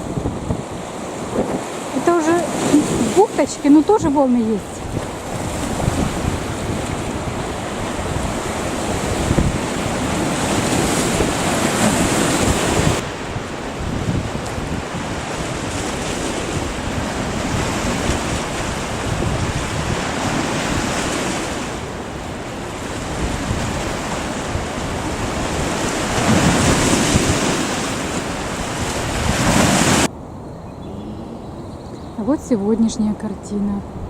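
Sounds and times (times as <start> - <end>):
waves breaking on shore: 0.0 - 30.1
wind buffeting microphone: 0.0 - 34.0.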